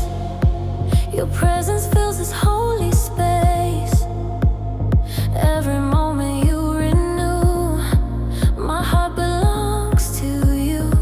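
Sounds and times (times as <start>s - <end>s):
sustained synth melody: 0.0s - 10.8s
kick drum beat: 0.0s - 11.0s.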